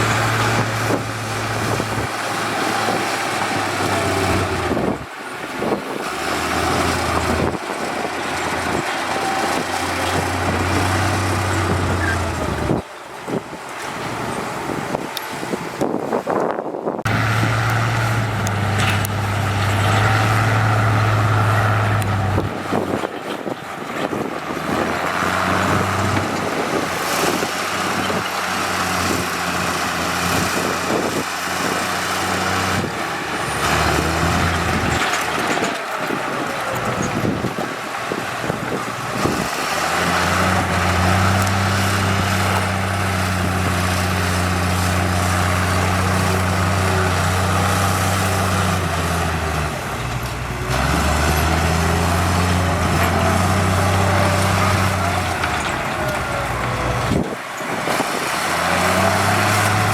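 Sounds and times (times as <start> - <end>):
general machinery noise: 0.0 - 59.9
heavy diesel engine humming: 0.0 - 59.9.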